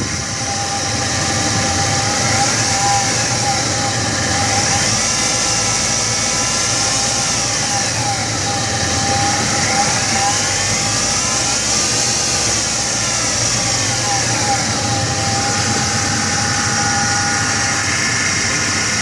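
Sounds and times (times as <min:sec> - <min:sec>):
engine idling with timing-chain whir: 0:00.0 - 0:19.0.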